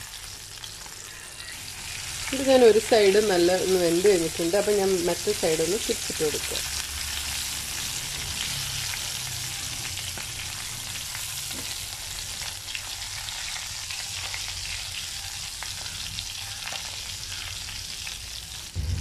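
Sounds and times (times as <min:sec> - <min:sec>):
fish sizzling in a pan: 0:00.0 - 0:19.0.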